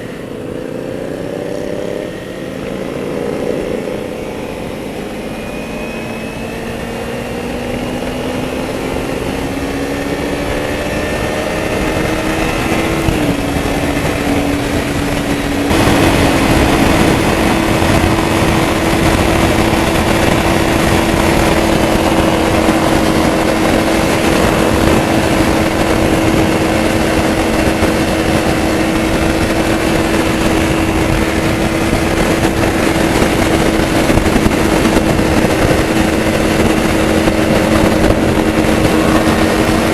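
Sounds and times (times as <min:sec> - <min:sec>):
motorcycle engine accelerating: 0:00.0 - 0:39.9
rushing noise: 0:00.0 - 0:39.9.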